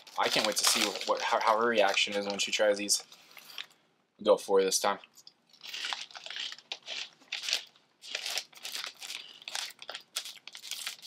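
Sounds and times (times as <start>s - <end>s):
crinkly bag rustling: 0.0s - 3.7s, 5.6s - 11.0s.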